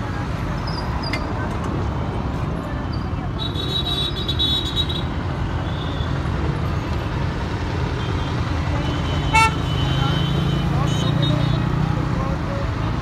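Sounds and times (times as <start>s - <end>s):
traffic rumble of engines and tyres: 0.0s - 13.0s.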